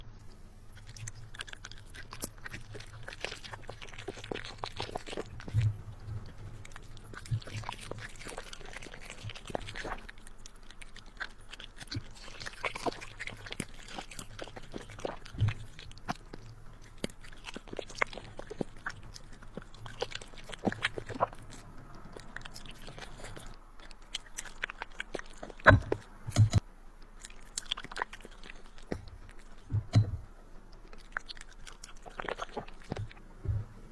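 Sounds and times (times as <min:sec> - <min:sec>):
puppy chewing and crunching food: 0:00.0 - 0:33.9.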